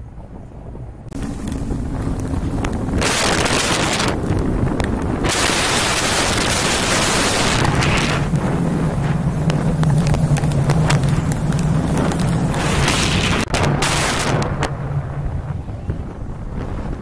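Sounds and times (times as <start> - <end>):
car rumbling on road: 0.0 - 17.0
steady low hum: 0.0 - 17.0
wind buffeting microphone: 0.0 - 17.0.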